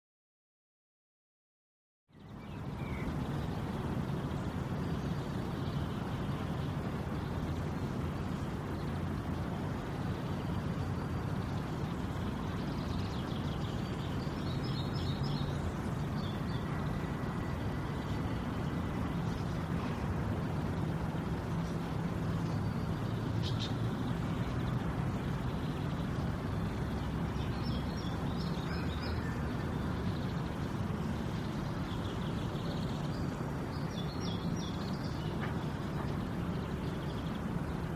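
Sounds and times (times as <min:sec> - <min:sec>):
steady low rumbling: 0:02.3 - 0:37.9.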